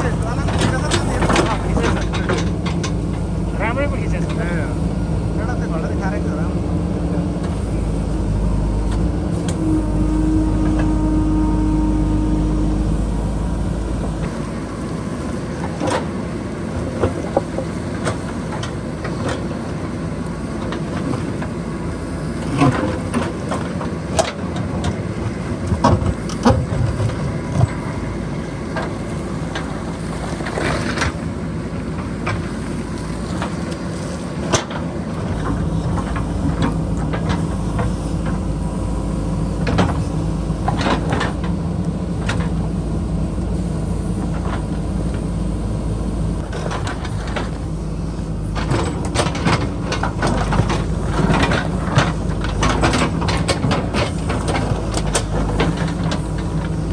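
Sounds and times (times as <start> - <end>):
diesel engine under load: 0.0 - 56.9.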